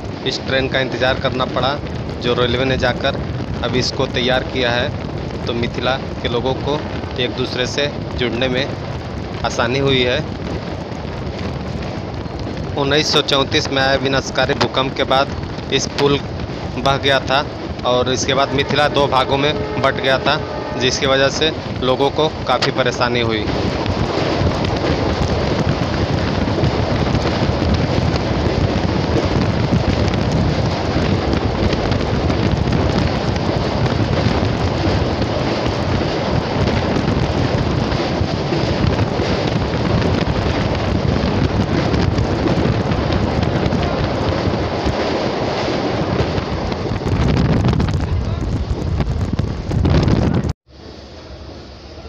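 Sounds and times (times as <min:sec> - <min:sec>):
train rumbling over bridge: 0:00.0 - 0:52.0
wind buffeting microphone: 0:00.0 - 0:52.0.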